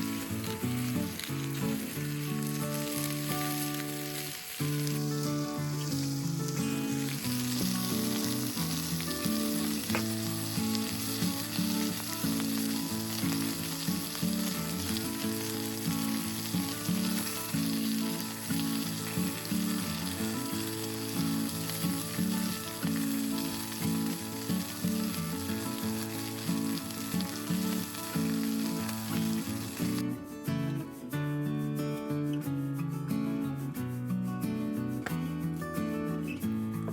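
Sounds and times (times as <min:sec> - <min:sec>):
food sizzling in a pan: 0:00.0 - 0:30.1
background music: 0:00.0 - 0:31.1.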